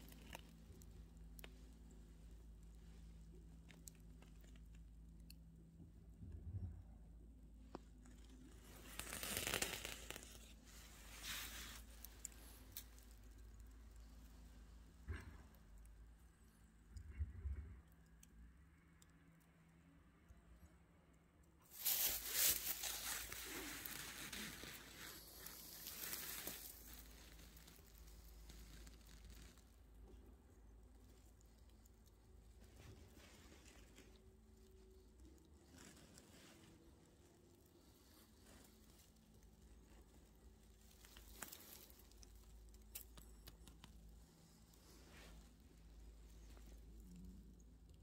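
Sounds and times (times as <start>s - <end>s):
dry grass rustling and crackling: 0.0s - 5.1s, 7.7s - 15.3s, 21.6s - 47.9s
faint low background hum: 0.0s - 48.0s.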